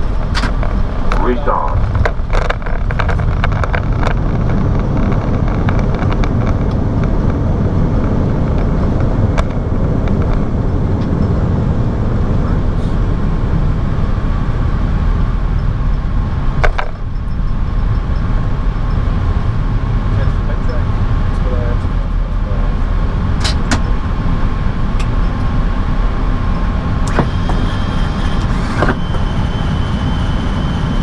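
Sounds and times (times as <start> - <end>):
engine and airflow rush: 0.0 - 31.0.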